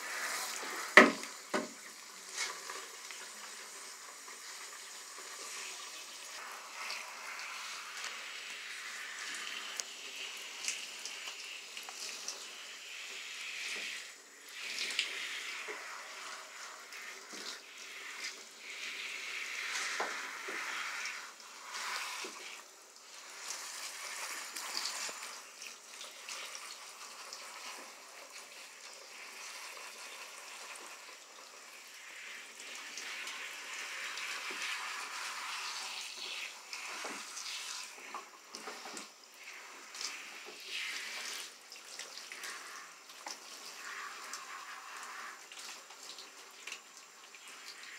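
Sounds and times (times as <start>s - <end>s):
shower water spraying and splashing: 0.0s - 47.9s.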